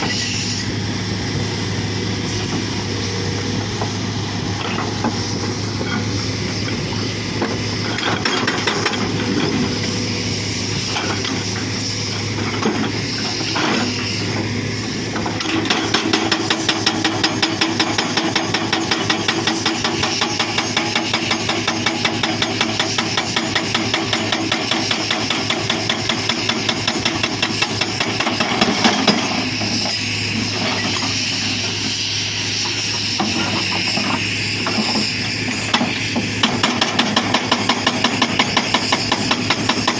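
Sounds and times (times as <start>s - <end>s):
excavator engine running: 0.0s - 39.9s
hydraulic breaker hammering rock: 3.6s - 10.0s, 10.8s - 39.9s.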